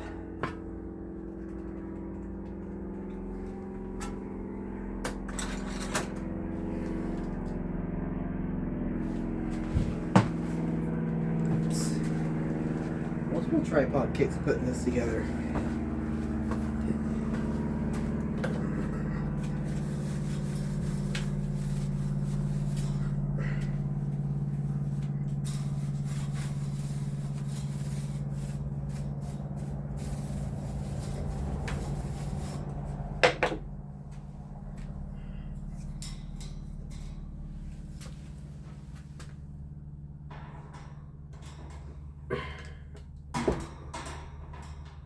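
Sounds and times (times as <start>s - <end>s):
machine hum: 0.0s - 45.0s.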